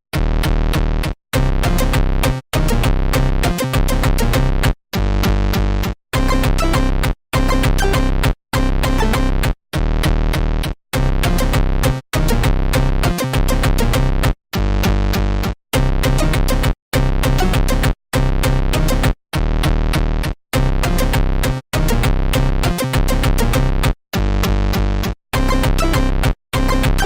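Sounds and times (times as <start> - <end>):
electronic music with drum-machine beat: 0.2 - 27.0.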